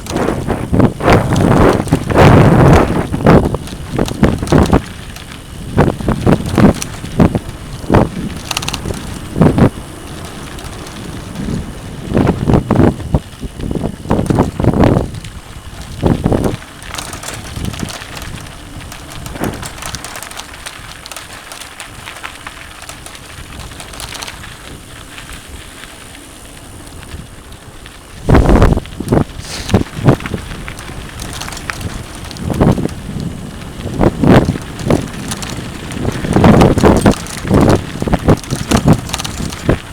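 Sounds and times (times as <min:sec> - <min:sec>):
wind on microphone: 0:00.0 - 0:22.2, 0:27.0 - 0:39.9
bike clattering over bumps: 0:00.0 - 0:39.9
bike rolling over dirt trail: 0:00.0 - 0:39.9.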